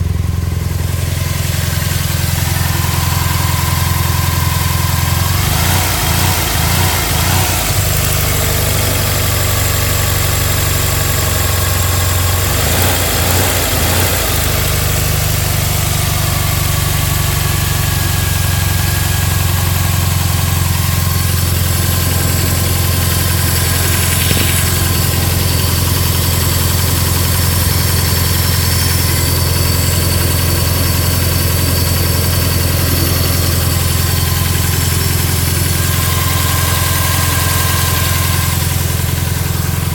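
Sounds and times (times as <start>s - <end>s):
car engine idling rough: 0.0s - 39.9s.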